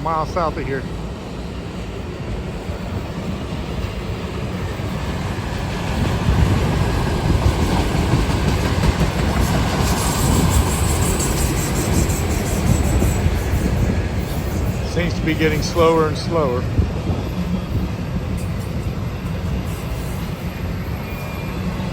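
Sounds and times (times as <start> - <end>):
freight train rolling past: 0.0 - 21.9.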